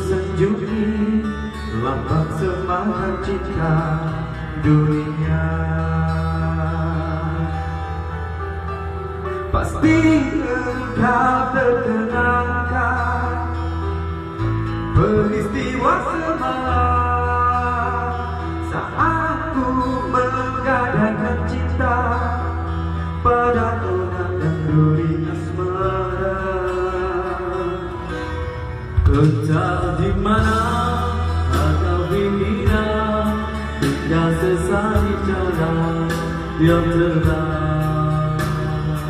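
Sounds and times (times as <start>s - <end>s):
karaoke song over speakers: 0.0s - 39.0s.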